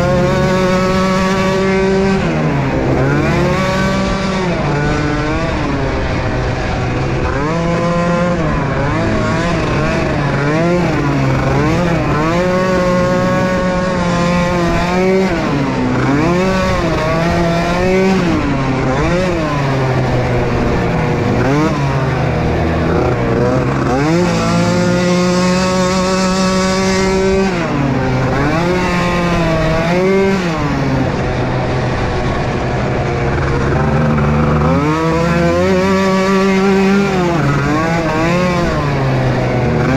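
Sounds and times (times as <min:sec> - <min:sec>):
atv engines revving: 0:00.0 - 0:39.9
steady low engine note: 0:00.0 - 0:39.9.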